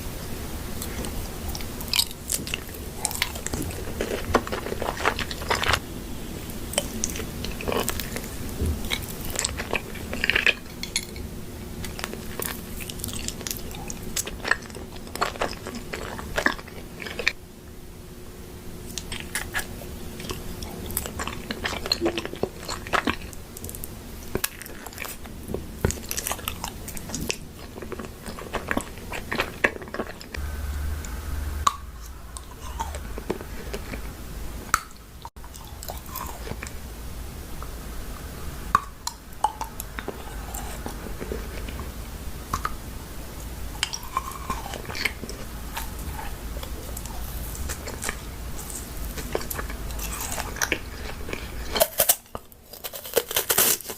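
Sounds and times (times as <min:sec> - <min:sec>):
low steady hum: 0:00.0 - 0:53.9
chewing crunchy food: 0:00.6 - 0:17.4, 0:18.8 - 0:30.4, 0:31.0 - 0:36.9, 0:38.7 - 0:53.9.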